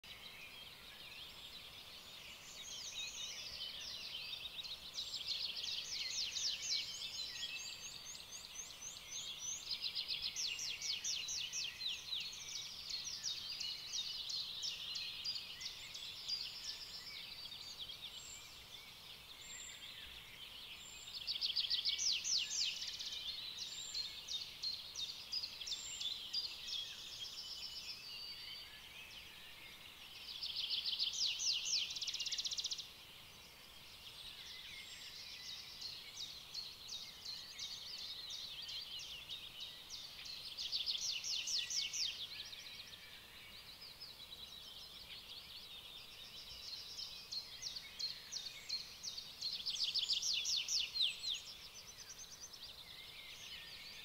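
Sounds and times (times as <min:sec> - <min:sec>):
faint hiss: 0:00.0 - 0:54.0
songbirds singing: 0:00.0 - 0:54.0.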